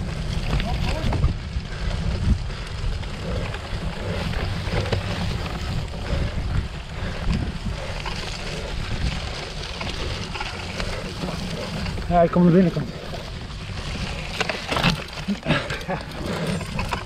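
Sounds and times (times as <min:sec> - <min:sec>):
bike rattling over rough ground: 0:00.0 - 0:17.0
wind buffeting microphone: 0:00.0 - 0:17.0.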